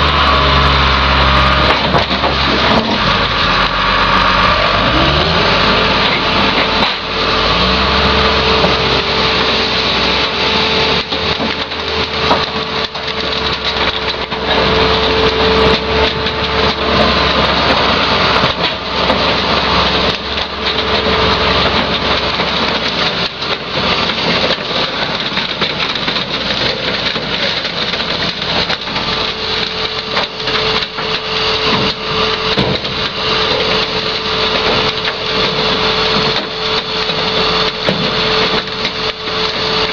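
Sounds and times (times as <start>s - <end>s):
diesel engine running: 0.0s - 39.9s
metal clanks and crunches: 0.0s - 39.9s.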